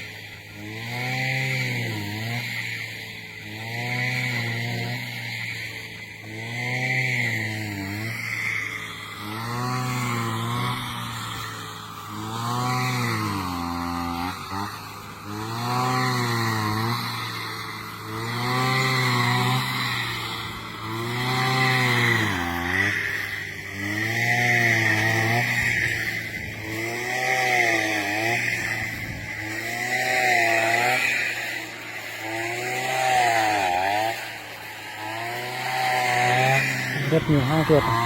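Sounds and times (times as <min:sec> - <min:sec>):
brush cutter engine revving: 0:00.0 - 0:38.0.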